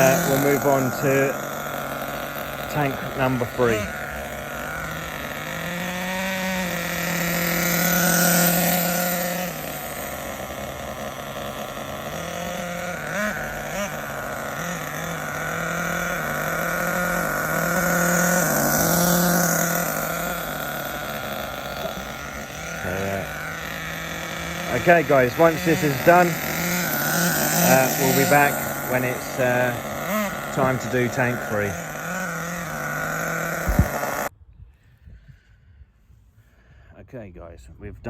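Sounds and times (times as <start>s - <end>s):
nitro engine revving: 0.0s - 34.3s.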